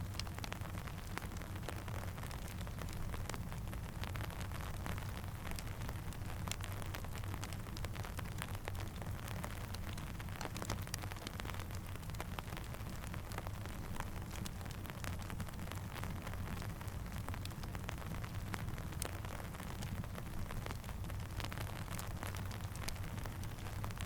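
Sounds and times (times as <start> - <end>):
campfire crackling: 0.0 - 24.0
steady rain: 0.0 - 24.0.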